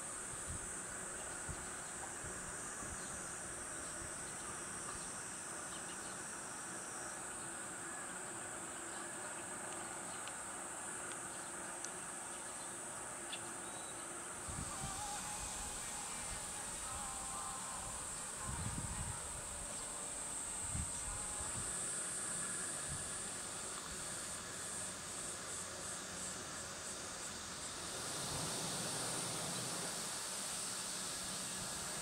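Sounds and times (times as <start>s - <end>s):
insects buzzing trill: 0.0s - 32.0s.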